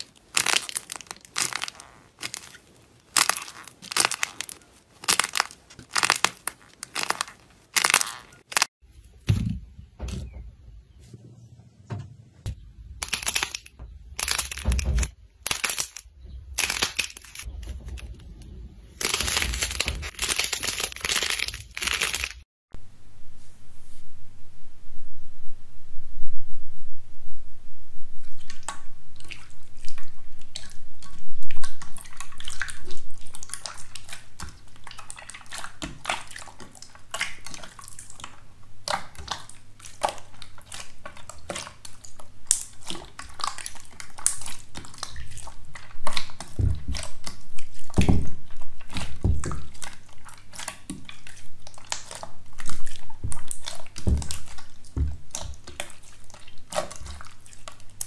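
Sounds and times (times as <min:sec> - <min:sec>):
wet slime squishing: 0:00.0 - 0:08.8, 0:12.5 - 0:22.4, 0:28.4 - 0:58.0.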